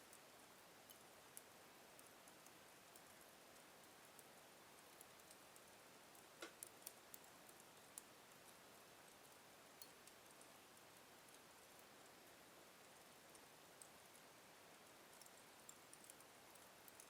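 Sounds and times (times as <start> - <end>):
wood fire crackling: 0.1 - 17.0.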